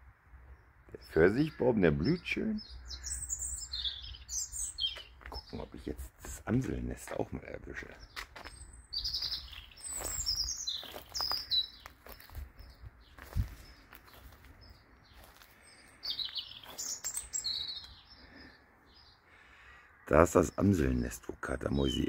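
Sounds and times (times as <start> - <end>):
songbird twittering: 0.9 - 5.9, 7.8 - 22.0.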